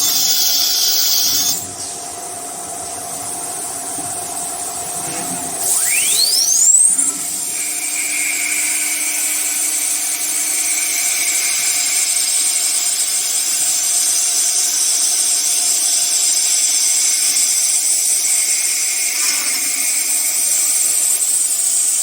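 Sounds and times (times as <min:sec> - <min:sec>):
machine spindle whining: 0:00.0 - 0:01.8, 0:04.5 - 0:22.0.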